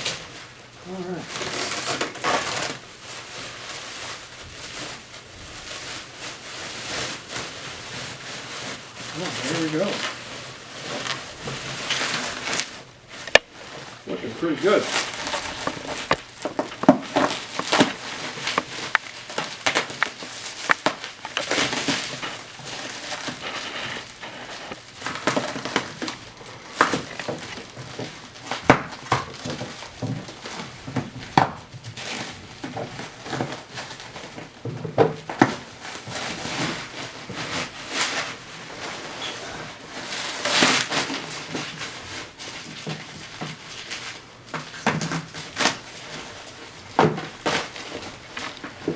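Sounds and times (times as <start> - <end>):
packing material rustling: 0.0 - 48.9.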